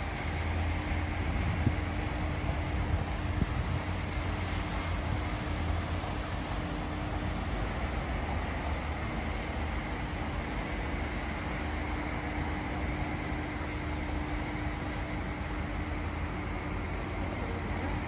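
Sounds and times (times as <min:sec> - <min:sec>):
constant hum: 0:00.0 - 0:18.0
low mechanical rumble: 0:00.0 - 0:18.0.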